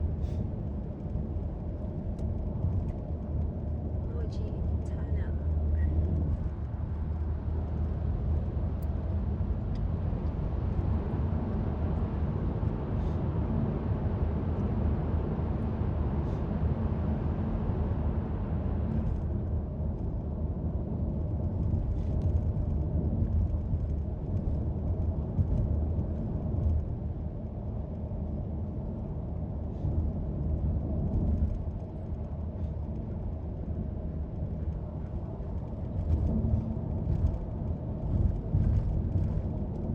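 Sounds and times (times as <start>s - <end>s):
road vehicles rumbling: 0.0s - 39.9s.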